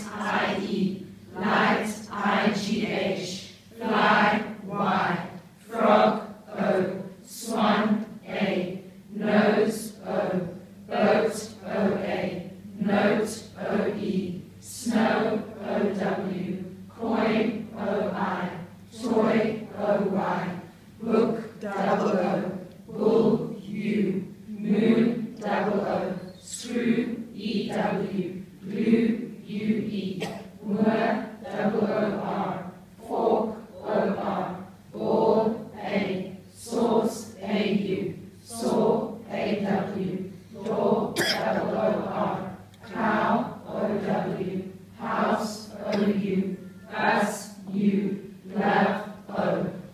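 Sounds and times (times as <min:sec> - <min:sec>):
group chanting in unison: 0:00.0 - 0:49.9.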